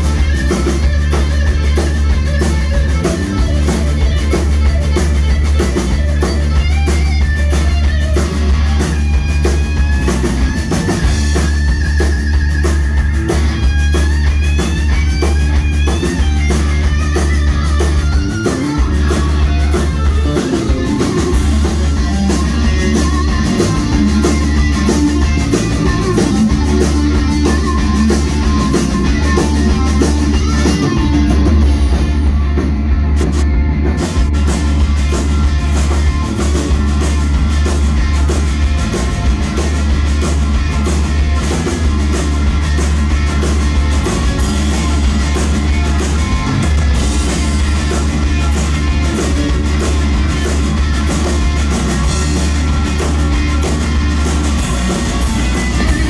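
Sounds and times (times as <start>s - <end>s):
bass guitar: 0.0s - 56.0s
drum kit: 0.0s - 56.0s
electric guitar lead lines: 0.0s - 56.0s.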